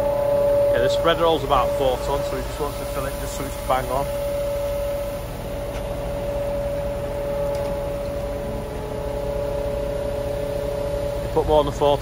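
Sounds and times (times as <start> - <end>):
loader engine whining: 0.0 - 12.0.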